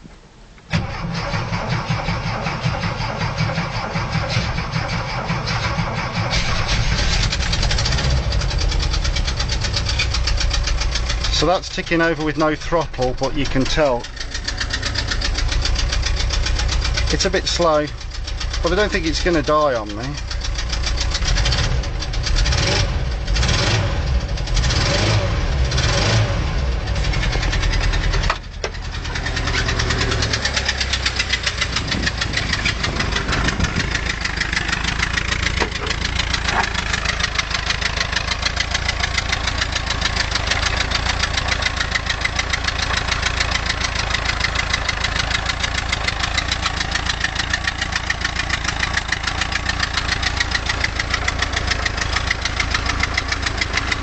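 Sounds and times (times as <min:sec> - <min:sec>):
van engine idling: 0:00.7 - 0:54.0.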